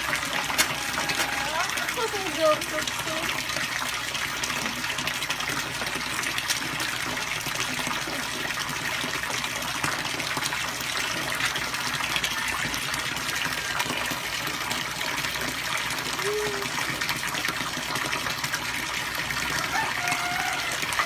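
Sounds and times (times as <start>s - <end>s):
fish splashing water: 0.0s - 21.0s.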